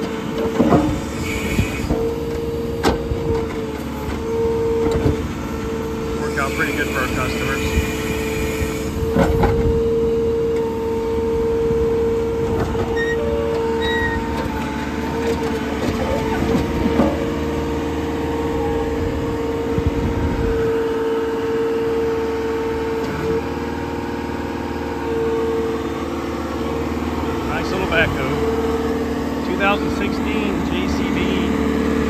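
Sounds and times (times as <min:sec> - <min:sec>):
diesel engine under hydraulic load: 0:00.0 - 0:32.0.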